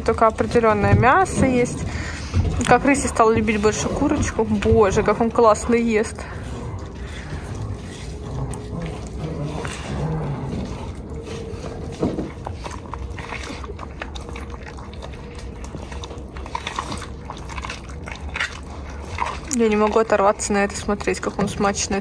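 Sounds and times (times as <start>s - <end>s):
big cat chewing meat: 0.0s - 22.0s
bone crunching: 0.4s - 19.7s.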